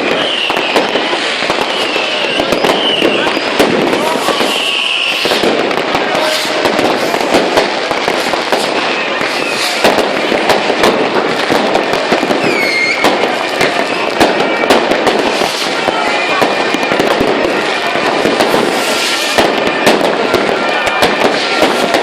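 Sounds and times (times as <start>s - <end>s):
fireworks and firecrackers banging: 0.0s - 22.0s
voices: 0.0s - 22.0s
whistling rocket: 0.0s - 22.0s.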